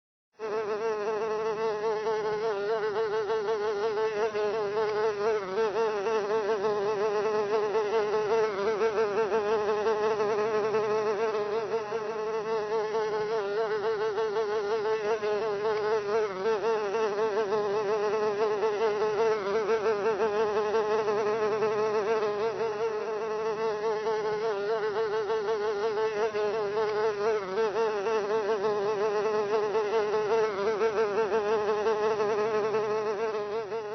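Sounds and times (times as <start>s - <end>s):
fly buzzing: 0.4s - 33.9s.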